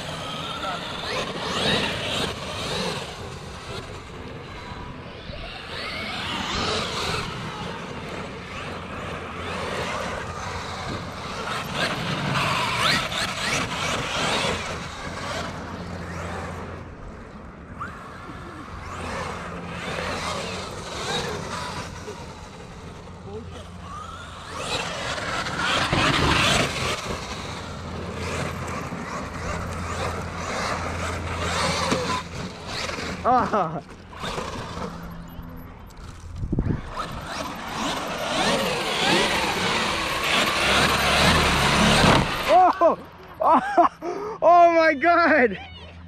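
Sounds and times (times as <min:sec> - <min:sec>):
electric motor whine: 0:00.0 - 0:42.9.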